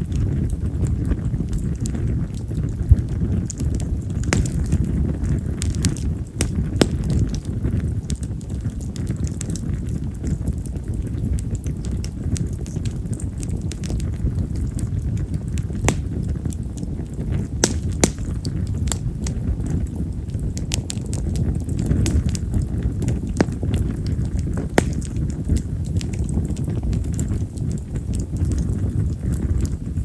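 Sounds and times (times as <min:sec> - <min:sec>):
fire flames rumbling: 0:00.0 - 0:30.0
firewood crackling and popping: 0:00.0 - 0:30.0.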